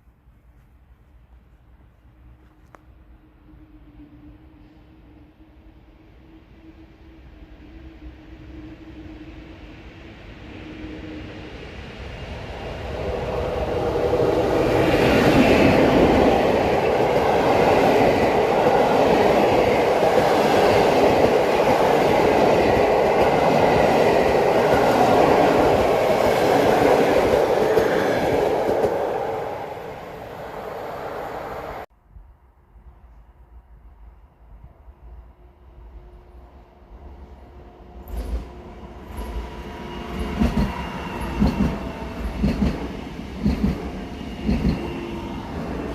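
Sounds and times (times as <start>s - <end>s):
train passing on rails: 0.0s - 31.9s, 32.6s - 45.9s.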